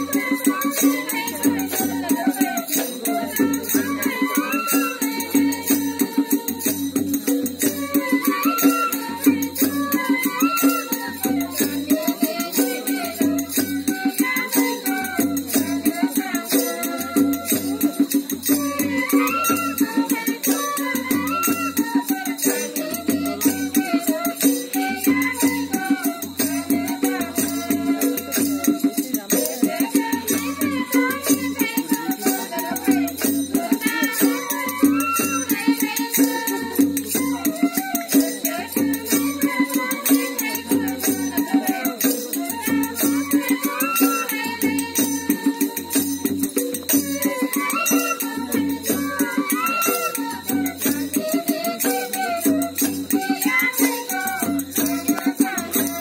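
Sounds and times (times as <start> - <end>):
drum beat: 0.0 - 56.0
rattling jingling percussion: 0.0 - 56.0.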